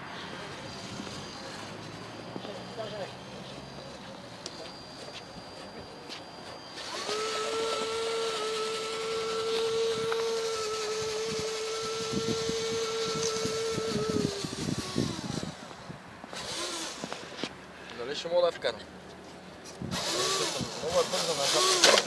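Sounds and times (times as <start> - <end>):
electric motor whining: 0.0 - 17.6, 19.7 - 22.0.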